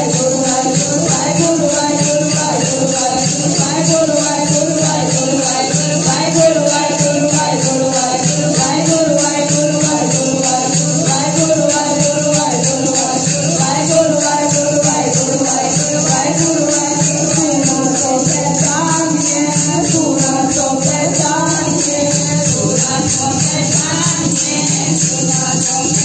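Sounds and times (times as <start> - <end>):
harmonium drone: 0.0 - 26.0
jingling hand percussion: 0.0 - 26.0
person singing: 0.0 - 26.0.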